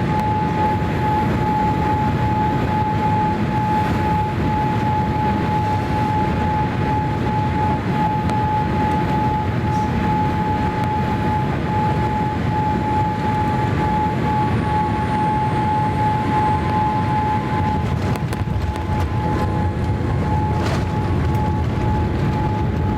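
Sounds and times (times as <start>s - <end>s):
airplane cabin engine noise: 0.0s - 22.9s
steady whine: 0.0s - 22.9s.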